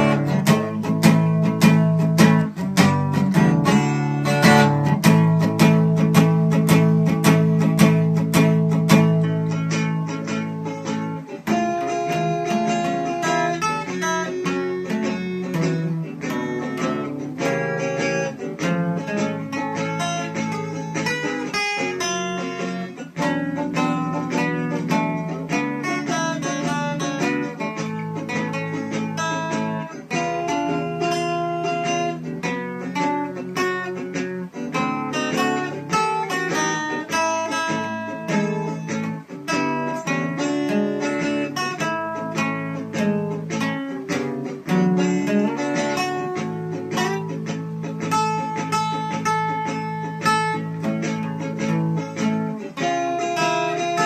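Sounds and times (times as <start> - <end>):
acoustic guitar picking and strumming: 0.0 - 54.0.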